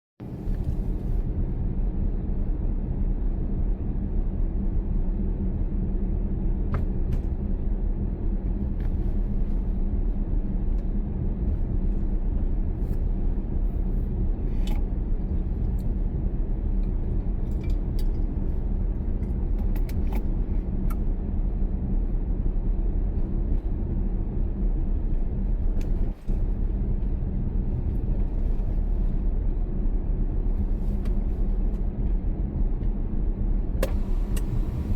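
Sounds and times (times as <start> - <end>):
car engine and road noise: 0.2 - 34.9.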